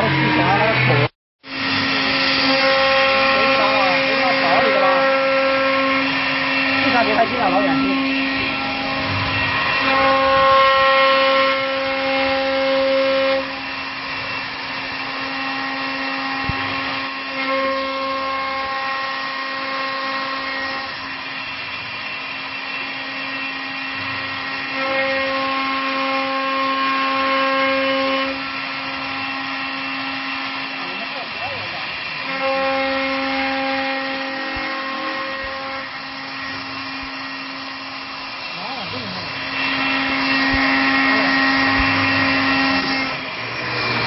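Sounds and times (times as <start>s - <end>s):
machine motor whine and hum: 0.0s - 44.0s.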